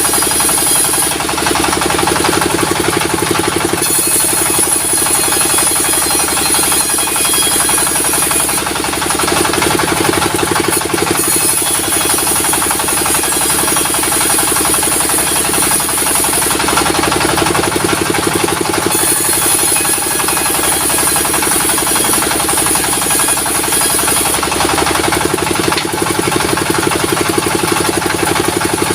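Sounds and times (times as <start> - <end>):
engine chugging: 0.0 - 28.9.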